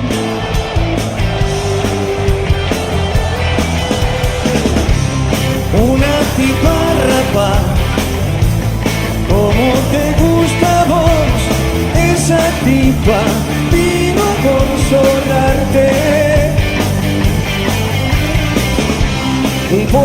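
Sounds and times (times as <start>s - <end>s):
rock song with singing: 0.0s - 20.0s.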